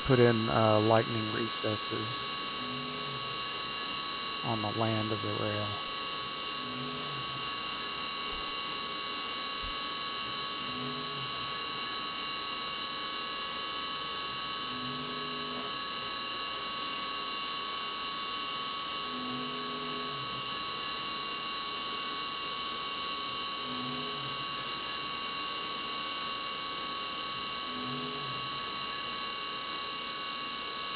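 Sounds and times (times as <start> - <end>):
mill spindle cutting whine: 0.0 - 30.9.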